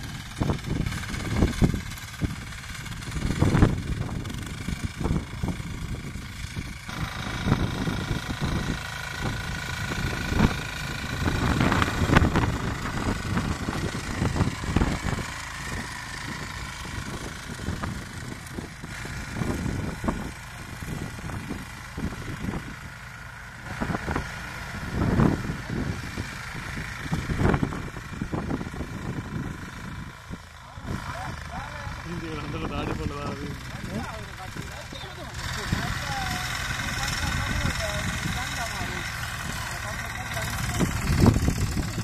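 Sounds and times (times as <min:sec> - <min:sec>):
cultivator engine running: 0:00.0 - 0:42.0.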